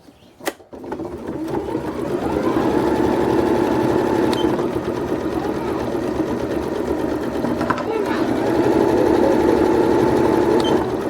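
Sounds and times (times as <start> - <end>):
sewing machine stitching: 0.4 - 11.0.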